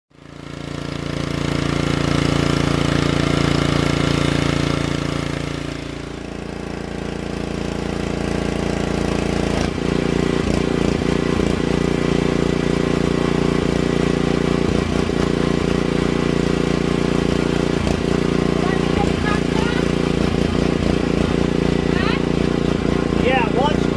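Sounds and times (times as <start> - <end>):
small gasoline engine running: 0.1 - 23.9.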